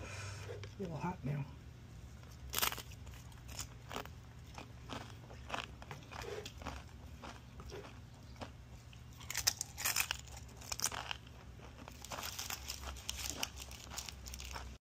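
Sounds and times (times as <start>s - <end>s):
crunching tortilla chips: 2.3s - 14.8s.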